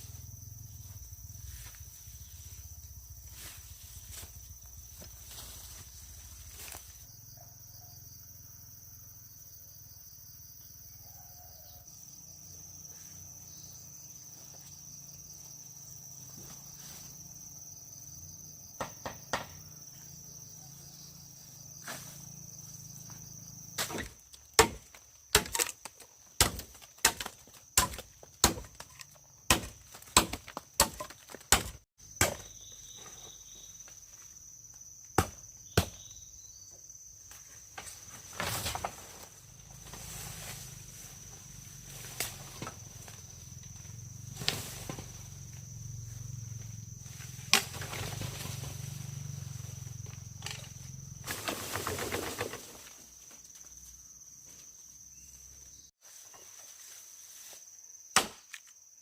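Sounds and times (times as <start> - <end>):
insects whining: 0.0 - 59.0.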